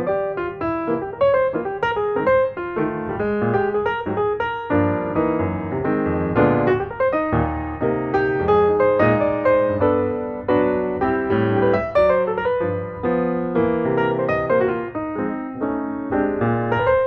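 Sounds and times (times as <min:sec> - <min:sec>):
instrumental piano music: 0:00.0 - 0:17.0.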